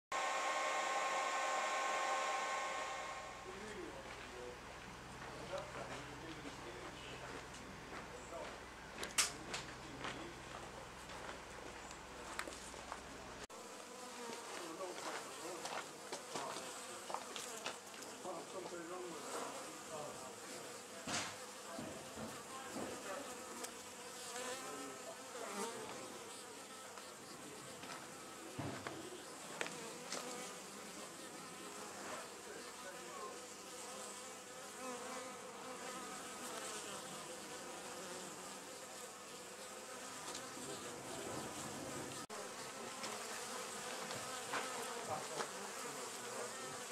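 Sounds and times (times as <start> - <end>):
honey bees buzzing: 0.1 - 46.9.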